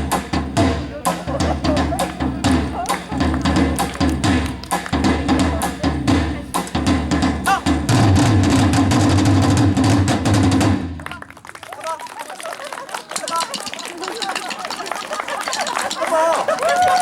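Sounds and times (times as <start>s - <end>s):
percussion ensemble drumming: 0.0s - 11.3s, 13.1s - 17.0s.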